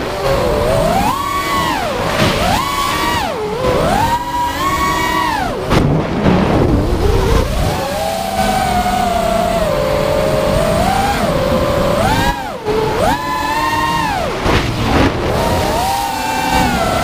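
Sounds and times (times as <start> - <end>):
drone motors whining: 0.0 - 17.0
wind rushing over microphone: 1.7 - 17.0.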